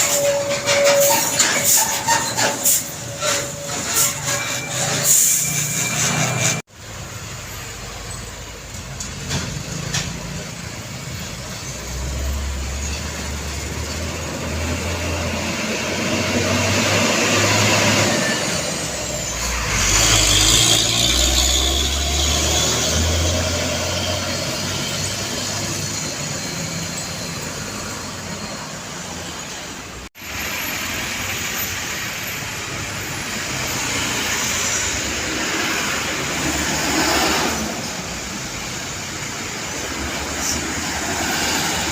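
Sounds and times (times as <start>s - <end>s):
heavy diesel trucks passing: 0.0s - 41.9s
tyre and traffic noise: 0.0s - 41.9s.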